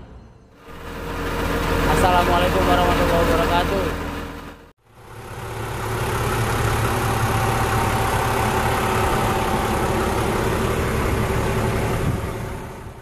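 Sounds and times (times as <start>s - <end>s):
car engine idling: 0.6s - 13.0s.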